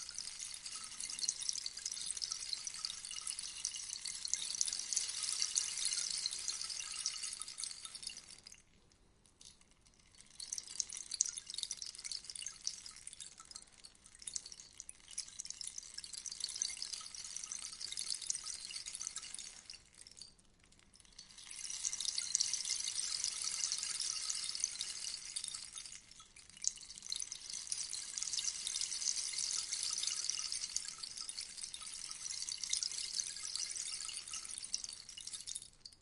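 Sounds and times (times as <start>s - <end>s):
rainstick trickling: 0.0s - 36.0s.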